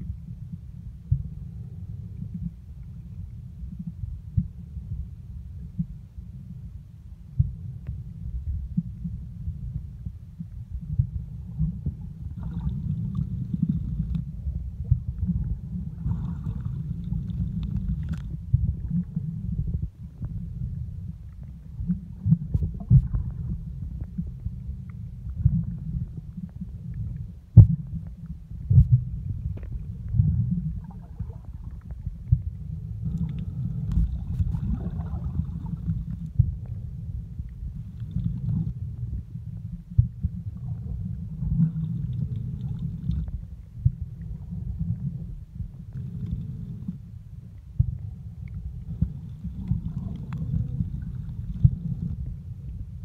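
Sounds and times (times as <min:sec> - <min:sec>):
muffled underwater rumble: 0:00.0 - 0:53.0.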